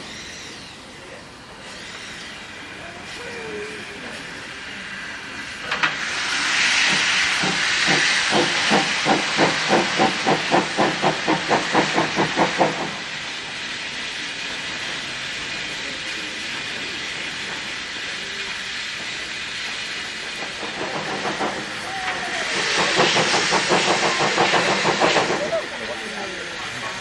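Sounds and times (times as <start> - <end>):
steam hissing: 0.0 - 27.0
locomotive exhaust chuffs: 4.2 - 27.0.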